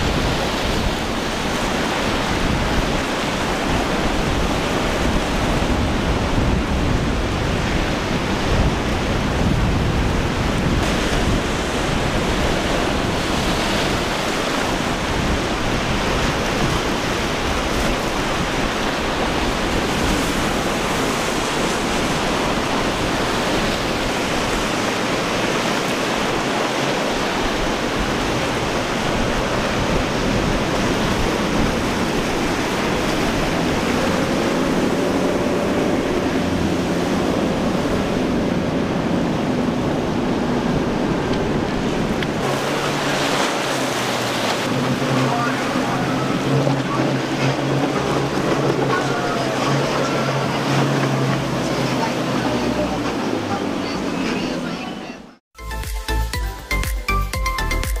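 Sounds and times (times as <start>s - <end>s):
faint boat outboard engines humming: 0.0s - 55.4s
breaking surf: 0.0s - 56.1s
wind: 0.0s - 58.0s.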